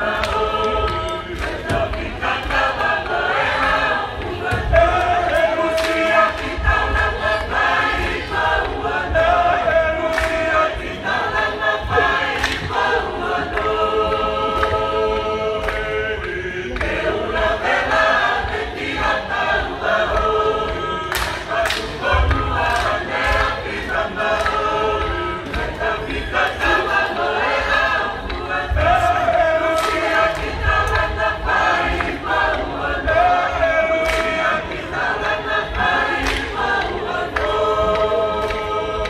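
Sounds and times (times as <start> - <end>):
choir singing in parts: 0.0 - 39.0
sharp claps: 0.0 - 39.0.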